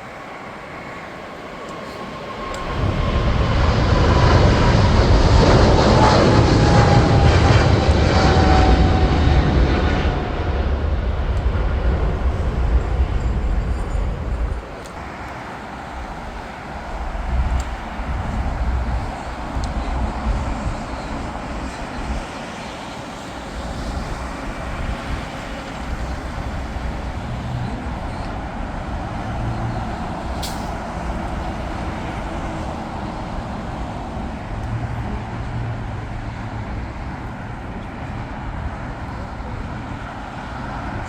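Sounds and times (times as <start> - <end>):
jet aircraft engines: 0.0 - 41.0
road traffic: 0.0 - 41.0.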